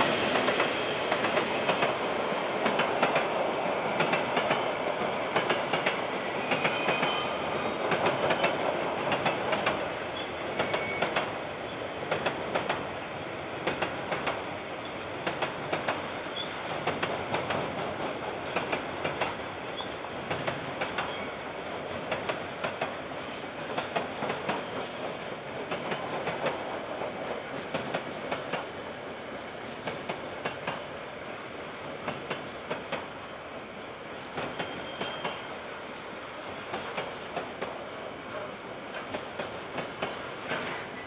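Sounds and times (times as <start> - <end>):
wheels clacking on rails: 0.0 - 12.9, 13.6 - 28.8, 29.7 - 30.9, 32.0 - 33.1, 34.3 - 35.5, 36.6 - 41.0
train wagons rumbling past: 0.0 - 28.8, 34.2 - 35.7, 36.4 - 41.0.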